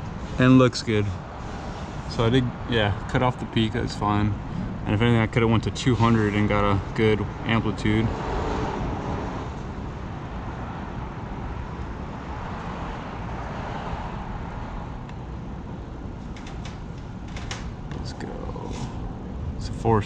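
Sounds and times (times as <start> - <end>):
vehicle noise: 0.0 - 20.0.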